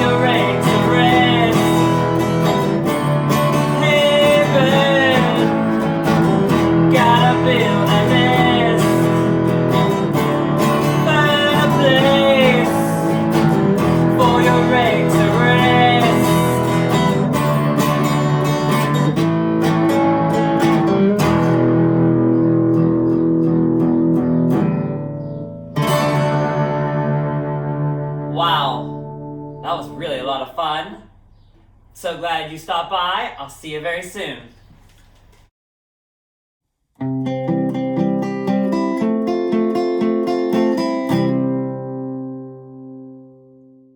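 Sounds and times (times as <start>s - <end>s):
upbeat acoustic guitar song: 0.0s - 31.0s, 32.0s - 34.5s, 37.0s - 43.8s.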